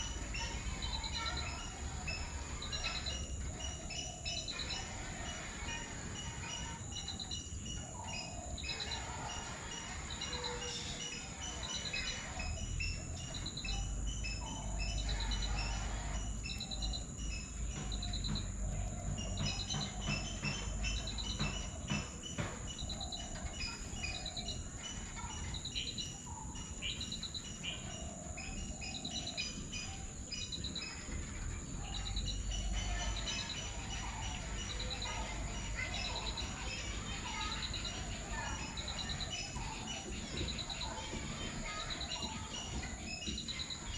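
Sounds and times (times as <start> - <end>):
high insect-like hum: 0.0 - 43.9
small birds chirping: 0.0 - 43.9.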